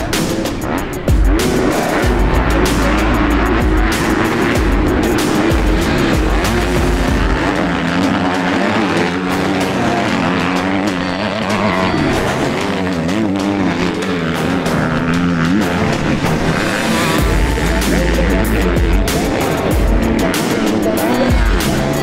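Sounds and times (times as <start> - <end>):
background music: 0.0 - 22.0
motocross bike engines revving: 0.0 - 22.0.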